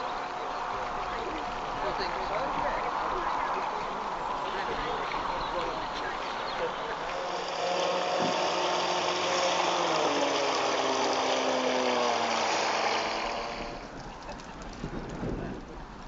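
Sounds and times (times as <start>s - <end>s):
water hiss: 0.0s - 14.0s
model boat motor whining: 0.0s - 14.2s.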